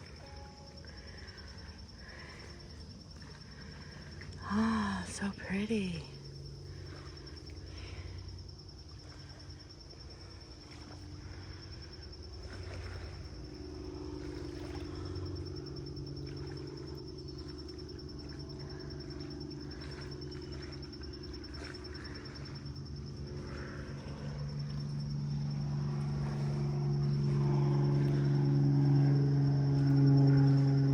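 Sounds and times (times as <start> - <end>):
crickets trilling: 0.0 - 30.9
low steady hum: 0.0 - 30.9.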